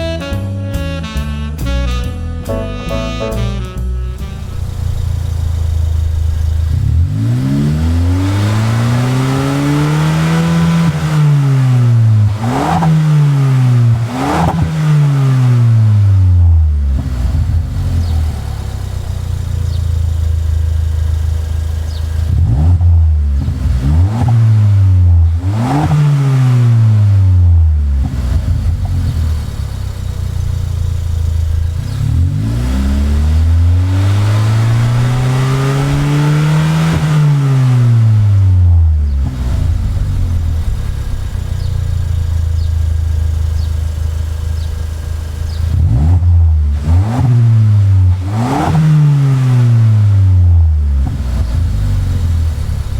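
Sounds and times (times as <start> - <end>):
car engine revving: 2.0 - 52.9.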